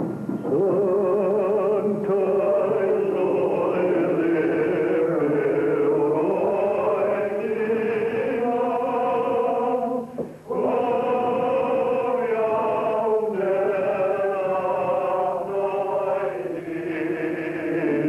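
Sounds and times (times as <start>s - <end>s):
congregation singing a hymn: 0.0s - 18.0s.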